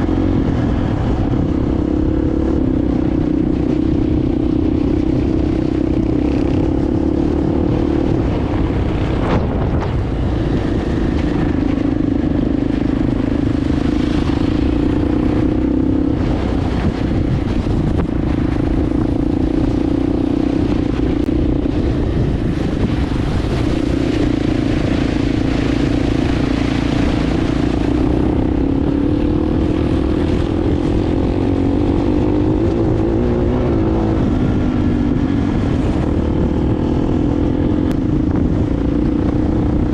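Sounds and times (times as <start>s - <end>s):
motorbike engine running: 0.0s - 39.9s
road rumble: 0.0s - 39.9s
wind noise: 0.0s - 39.9s.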